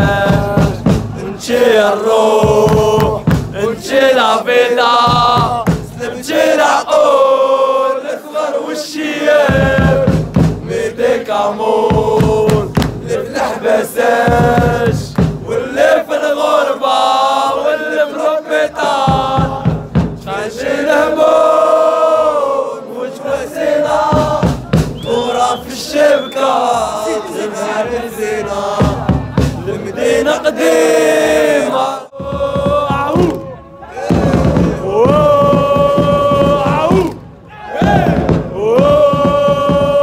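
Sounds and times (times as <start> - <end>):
crowd chanting: 0.0 - 40.0
men singing loudly: 0.0 - 40.0.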